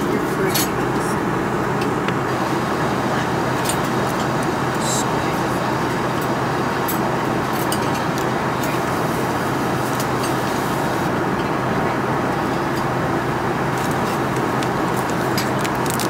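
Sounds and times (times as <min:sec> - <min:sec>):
jet cabin roar: 0:00.0 - 0:16.0.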